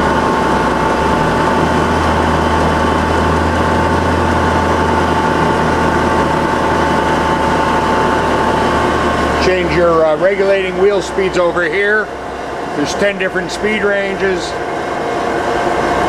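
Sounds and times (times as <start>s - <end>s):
grinder machine humming: 0.0s - 16.0s
high machine whine: 0.0s - 16.0s.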